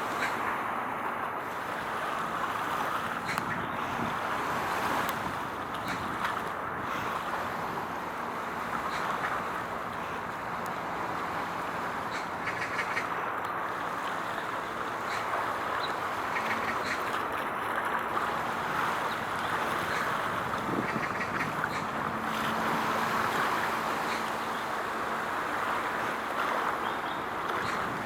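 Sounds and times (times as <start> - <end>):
water noise: 0.0 - 28.0
wind: 0.0 - 28.0.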